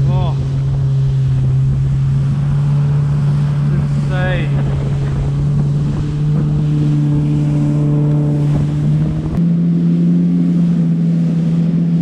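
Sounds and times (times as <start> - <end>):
personal watercraft engine drone: 0.0 - 12.0
wind buffeting microphone: 0.0 - 12.0.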